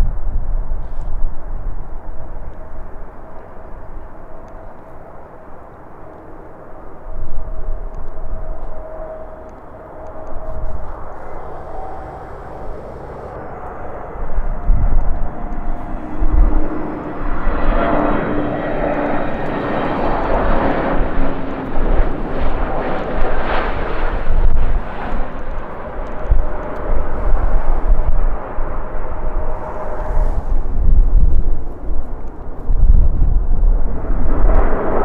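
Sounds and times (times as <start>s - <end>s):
wind buffeting microphone: 0.0s - 35.0s
jet engines roaring: 0.6s - 35.0s.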